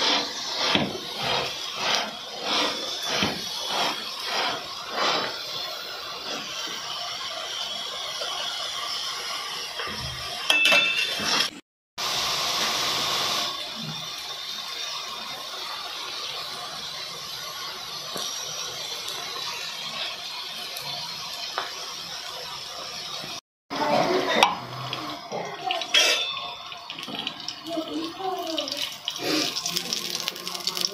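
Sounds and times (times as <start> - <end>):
flatbread sizzling in oil: 0.0 - 30.9.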